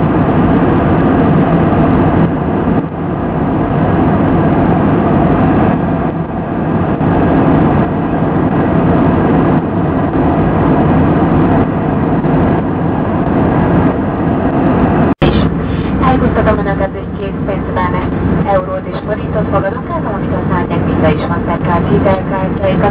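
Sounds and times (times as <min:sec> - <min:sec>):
airplane cabin engine rush: 0:00.0 - 0:22.9.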